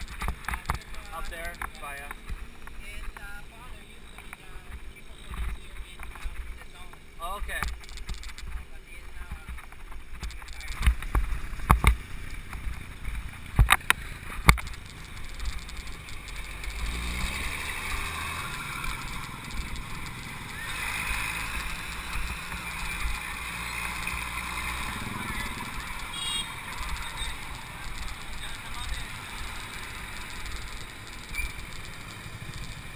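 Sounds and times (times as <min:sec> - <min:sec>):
road and traffic noise: 0:00.0 - 0:32.9.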